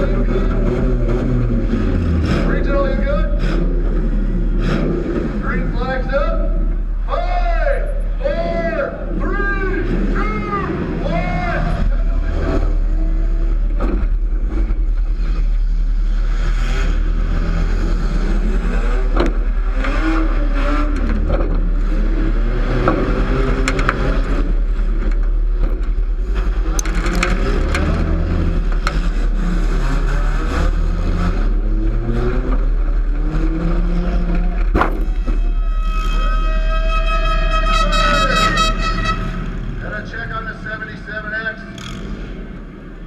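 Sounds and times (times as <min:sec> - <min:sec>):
cars crashing and scraping: 0:00.0 - 0:07.1, 0:07.8 - 0:41.1
car engines revving: 0:00.0 - 0:43.0
constant deep rumble: 0:00.0 - 0:43.0.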